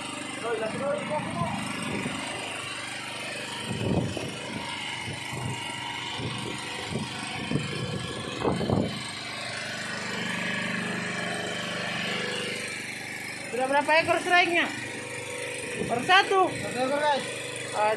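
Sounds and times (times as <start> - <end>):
boat engine running: 0.0 - 17.9.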